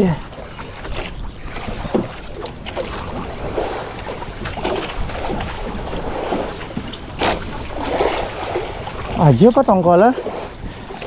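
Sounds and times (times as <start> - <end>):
water noise around boat: 0.0 - 11.0
wind: 0.0 - 11.0
wind buffeting microphone: 0.0 - 11.0.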